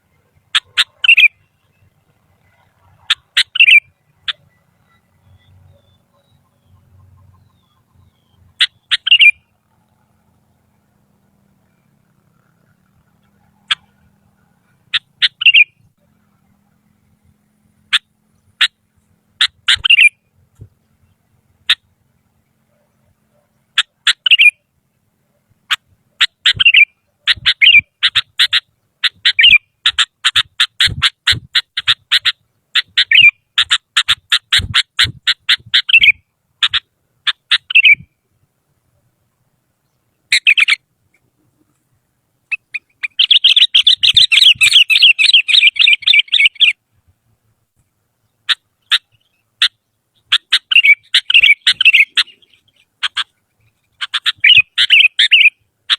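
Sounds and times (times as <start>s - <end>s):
bird calling sharp notes: 0.0s - 16.4s, 17.8s - 20.4s, 21.0s - 24.8s, 25.6s - 38.3s, 39.8s - 41.8s, 42.4s - 46.8s, 48.2s - 55.9s.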